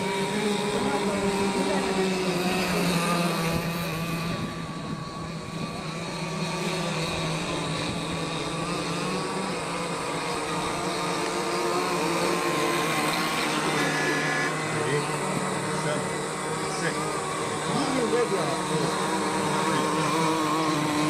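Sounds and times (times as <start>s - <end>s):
racing boat engines running: 0.0s - 21.0s.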